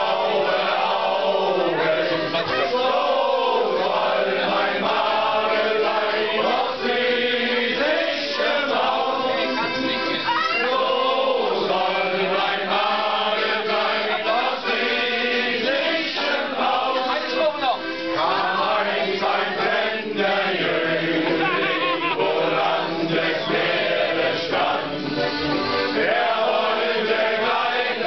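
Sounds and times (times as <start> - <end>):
group of men singing along: 0.0 - 9.7, 10.6 - 17.1, 18.2 - 28.0.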